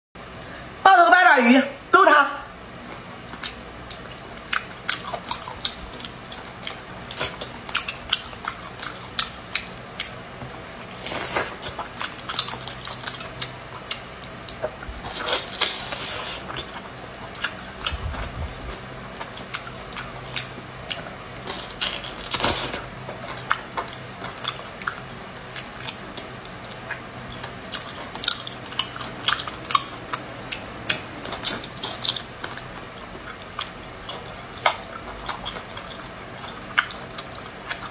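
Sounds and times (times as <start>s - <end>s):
person chewing wetly: 3.2s - 37.9s.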